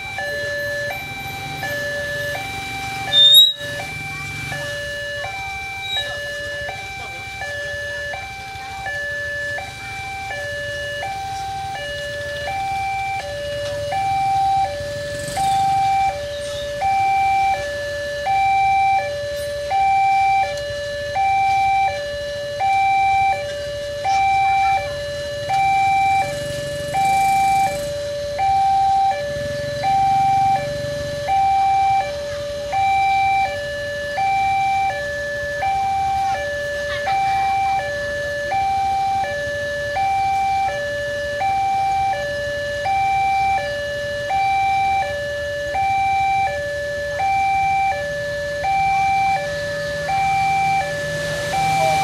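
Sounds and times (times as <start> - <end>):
two-tone crossing alarm: 0.0 - 52.0.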